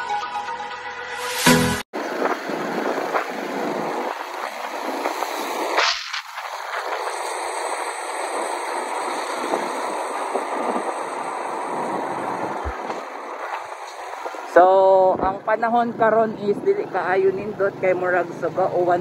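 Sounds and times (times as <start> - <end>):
motorcycle road noise: 2.0 - 19.0
wind rushing over microphone: 2.0 - 19.0.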